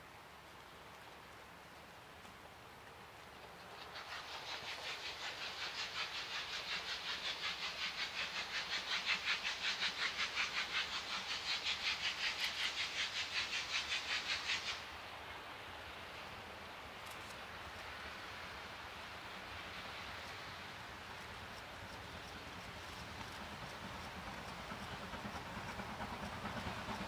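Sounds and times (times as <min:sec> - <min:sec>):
steam locomotive chuffing: 0:03.6 - 0:27.0.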